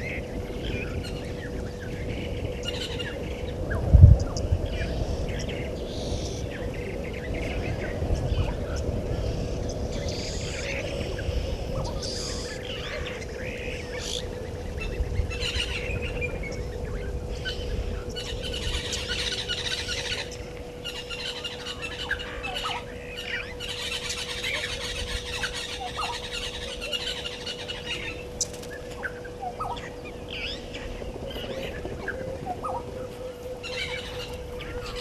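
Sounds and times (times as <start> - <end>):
steady low hum: 0.0 - 35.0
wild birds chirping and trilling: 0.0 - 35.0.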